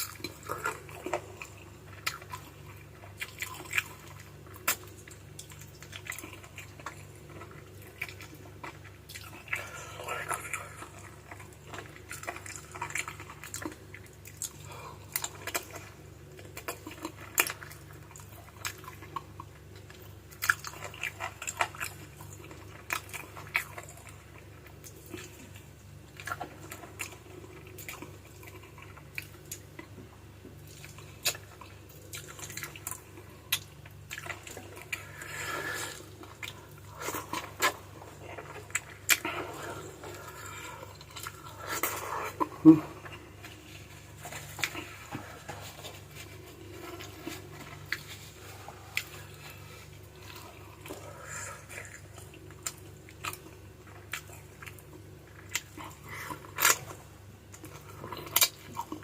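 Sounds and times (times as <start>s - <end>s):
chewing with wet mouth smacks: 0.0s - 59.0s.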